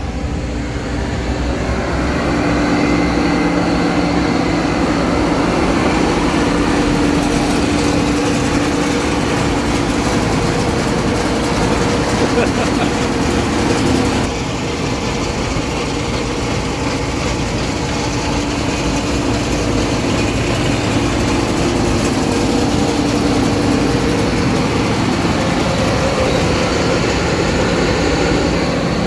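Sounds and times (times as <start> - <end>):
combine harvester drone: 0.0 - 29.0.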